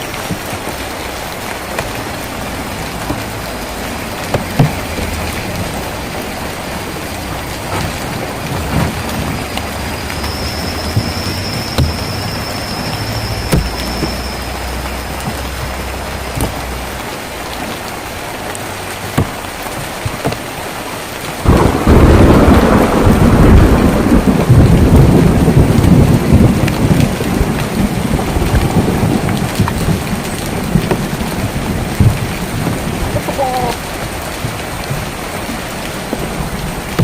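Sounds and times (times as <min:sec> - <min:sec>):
thunder rumbling: 0:00.0 - 0:20.3, 0:21.3 - 0:37.0
rain on a tin roof: 0:00.0 - 0:37.0.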